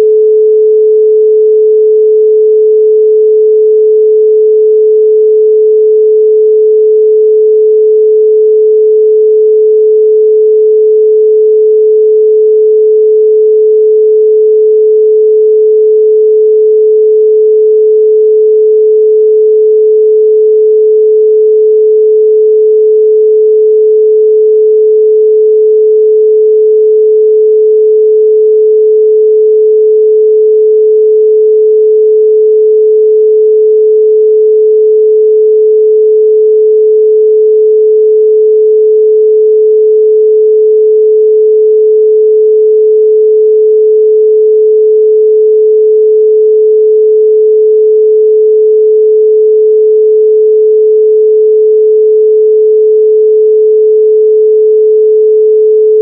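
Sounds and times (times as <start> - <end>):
pure sine tone: 0.0 - 56.0.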